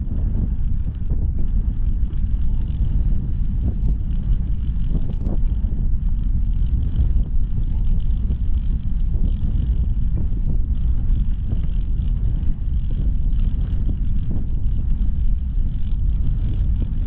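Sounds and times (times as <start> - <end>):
bicycle tyre noise on bricks: 0.0 - 17.0
wind rumbling on microphone: 0.0 - 17.0.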